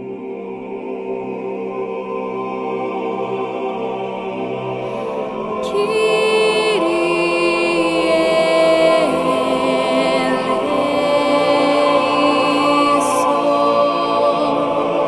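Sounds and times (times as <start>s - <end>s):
chant-like choral singing: 0.0s - 15.0s.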